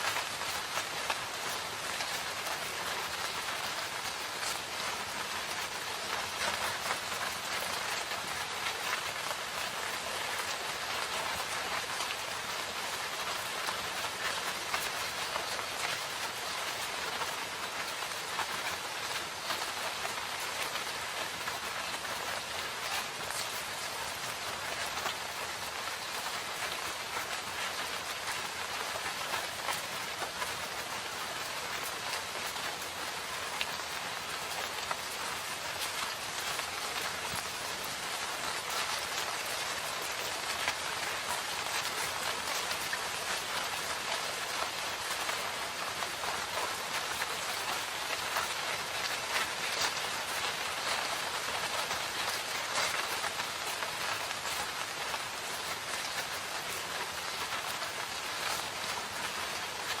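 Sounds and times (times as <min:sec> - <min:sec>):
rain pattering on leaves: 0:00.0 - 1:00.0.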